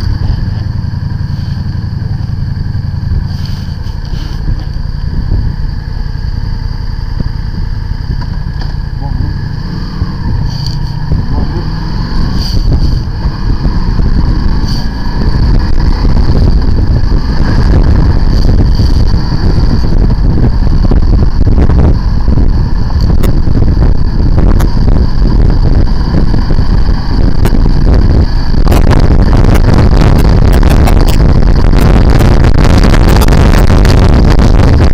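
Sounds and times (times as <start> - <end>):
motorcycle engine accelerating: 0.0 - 34.9
wind rumble on microphone: 0.0 - 34.9.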